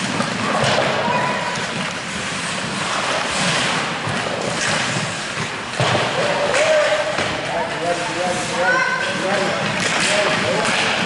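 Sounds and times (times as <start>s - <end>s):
skates scraping on ice: 0.0s - 11.0s.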